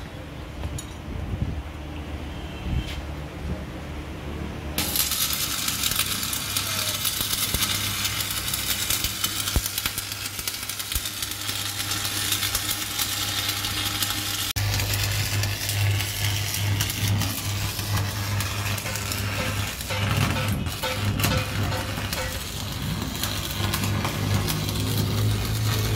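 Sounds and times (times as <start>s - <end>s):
arc welding crackling: 4.8s - 25.9s.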